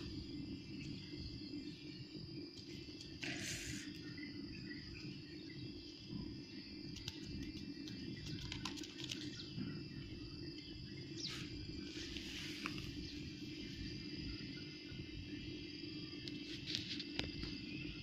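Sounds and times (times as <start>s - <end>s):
insect chirring: 0.0s - 18.0s.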